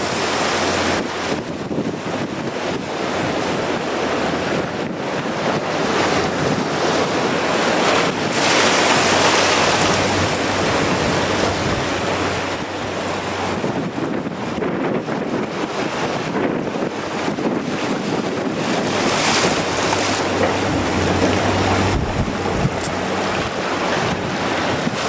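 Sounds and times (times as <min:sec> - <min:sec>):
gale blowing across microphone: 0:04.5 - 0:25.0.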